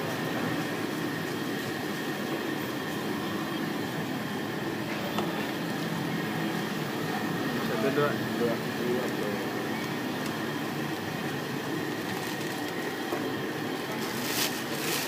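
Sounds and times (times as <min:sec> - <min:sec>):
faint constant whine: 0:00.0 - 0:15.0
mechanical room noise rumble: 0:00.0 - 0:15.0.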